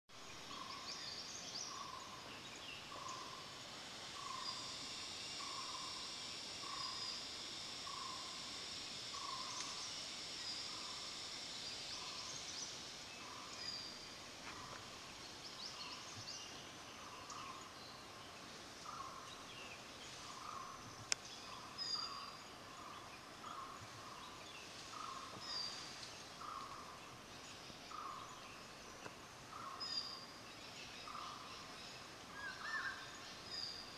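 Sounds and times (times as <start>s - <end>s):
steady high hiss: 0.1s - 33.9s.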